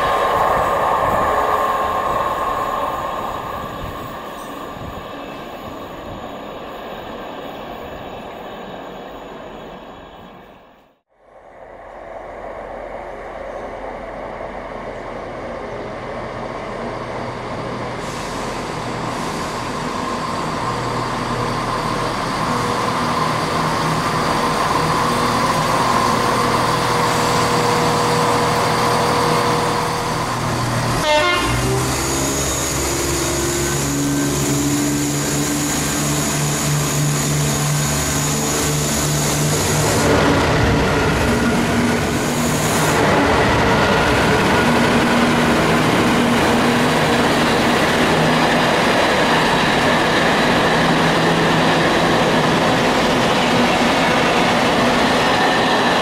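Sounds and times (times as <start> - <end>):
diesel locomotive engine: 0.0 - 56.0
diesel train passing: 0.0 - 56.0.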